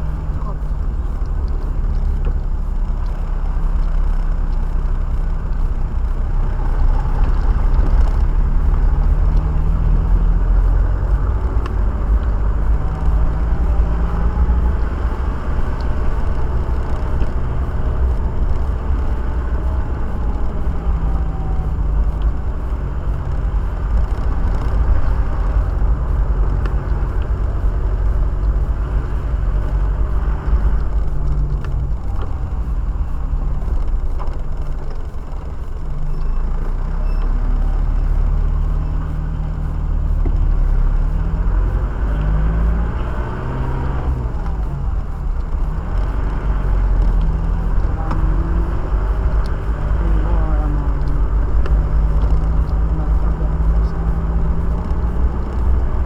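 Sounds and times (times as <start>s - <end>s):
car engine hum: 0.0s - 56.0s
road rumble and tyre noise: 0.0s - 56.0s.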